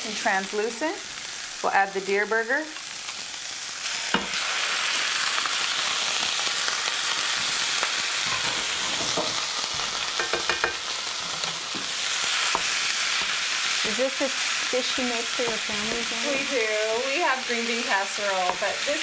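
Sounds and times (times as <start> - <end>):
meat sizzling in a skillet: 0.0 - 19.0.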